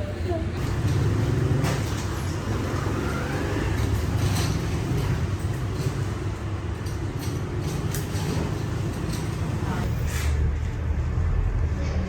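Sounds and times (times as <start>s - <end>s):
motorbike engines: 0.0s - 12.0s
road traffic rumble: 0.0s - 12.0s.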